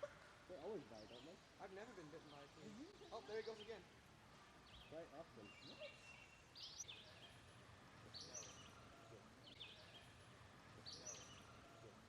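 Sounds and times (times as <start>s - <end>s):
faint bird chirping: 0.0s - 12.0s
outdoor background hiss: 0.0s - 12.0s.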